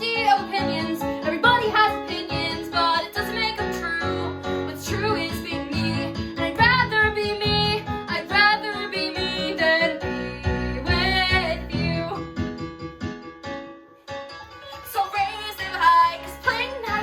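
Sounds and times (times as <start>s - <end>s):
girl singing: 0.0s - 10.0s, 10.8s - 12.2s, 14.5s - 17.0s.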